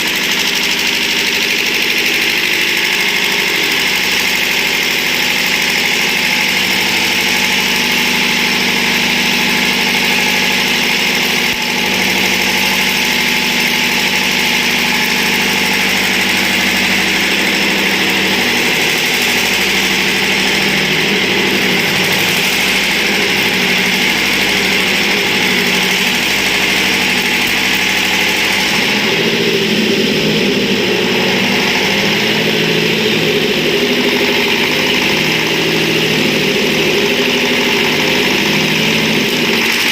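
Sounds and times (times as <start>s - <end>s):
diesel generator engine running: 0.0s - 39.9s.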